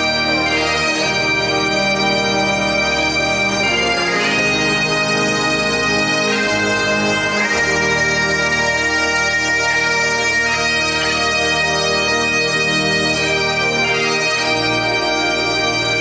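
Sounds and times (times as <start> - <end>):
bagpipes playing slow melody: 0.0 - 16.0.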